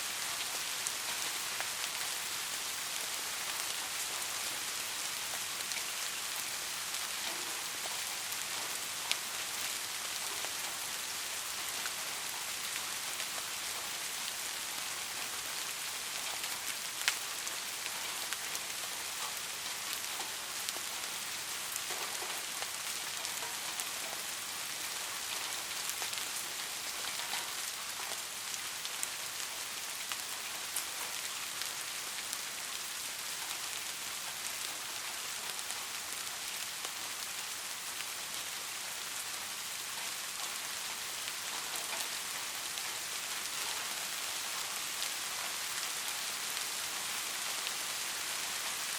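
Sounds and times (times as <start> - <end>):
rain hissing on surfaces: 0.0 - 48.9.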